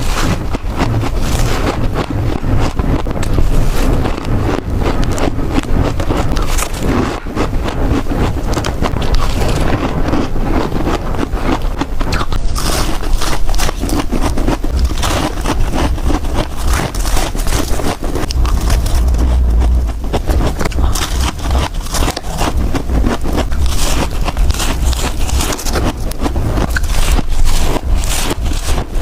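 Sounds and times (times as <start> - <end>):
crunching frozen ice: 0.0 - 29.0.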